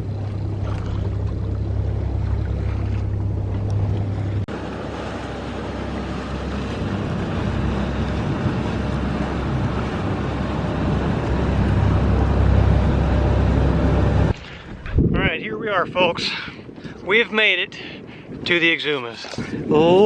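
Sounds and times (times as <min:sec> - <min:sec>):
heavy low rumble: 0:00.0 - 0:17.1
water rushing along hull: 0:00.0 - 0:20.0
wind buffeting microphone: 0:00.0 - 0:20.0.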